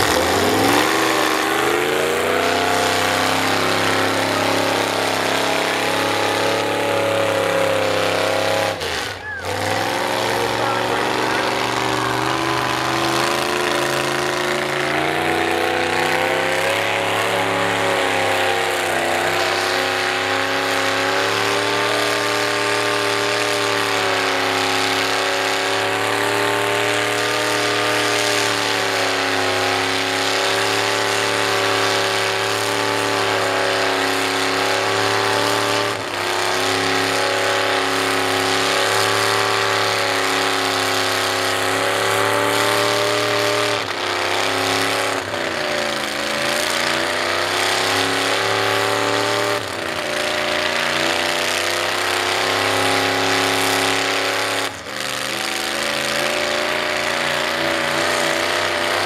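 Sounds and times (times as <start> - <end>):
truck engine revving hard: 0.0 - 59.0.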